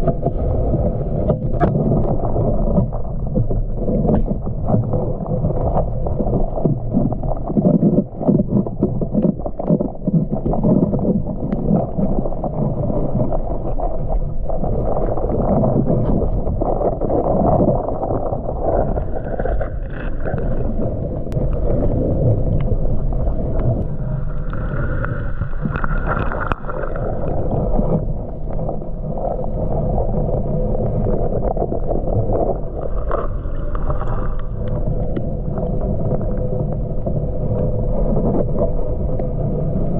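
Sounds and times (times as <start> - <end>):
muffled underwater rushing water: 0.0 - 39.9.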